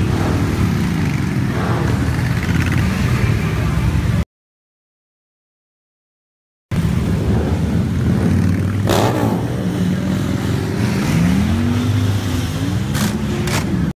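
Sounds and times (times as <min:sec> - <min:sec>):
motorcycle engine revving: 0:00.0 - 0:04.1, 0:06.8 - 0:13.9
motorcycles rumbling past: 0:00.0 - 0:04.2, 0:06.8 - 0:13.9.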